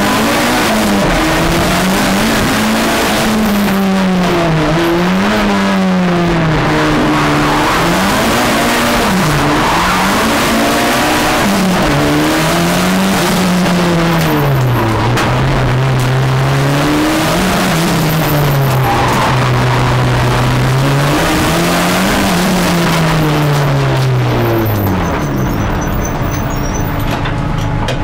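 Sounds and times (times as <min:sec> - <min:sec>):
race car engine revving: 0:00.0 - 0:27.1.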